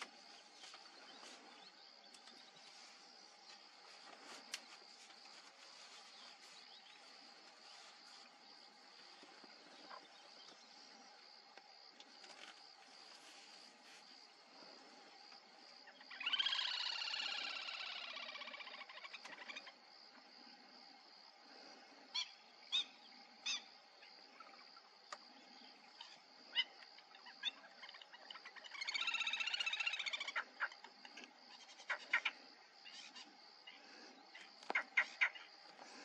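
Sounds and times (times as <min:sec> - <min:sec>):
birdsong: 0:00.0 - 0:11.2, 0:14.4 - 0:19.8, 0:22.1 - 0:36.0.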